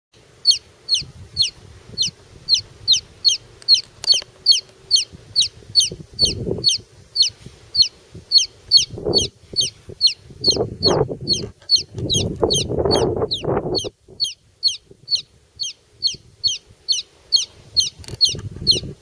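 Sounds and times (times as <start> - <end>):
baby chick peeping: 0.4 - 19.0.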